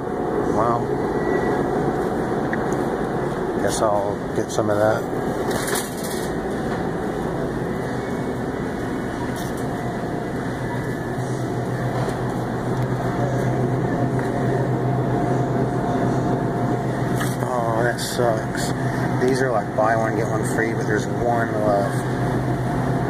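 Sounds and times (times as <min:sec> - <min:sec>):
low hum: 0:00.0 - 0:21.2
refrigerator hum and hiss: 0:00.0 - 0:23.0.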